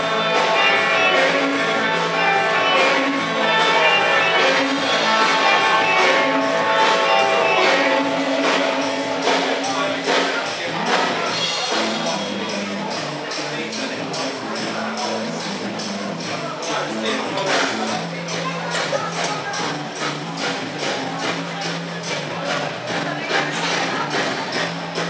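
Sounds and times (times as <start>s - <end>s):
music with steady beat: 0.0s - 25.0s.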